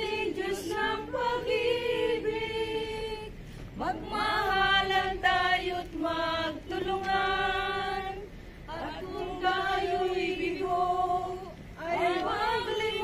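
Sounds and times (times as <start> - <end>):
group singing a hymn unaccompanied: 0.0 - 13.0.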